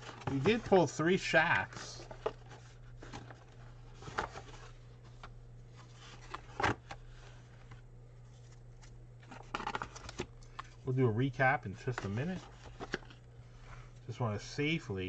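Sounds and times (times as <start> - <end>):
handling trading cards and card box: 0.0 - 14.0
steady low hum: 0.0 - 15.0.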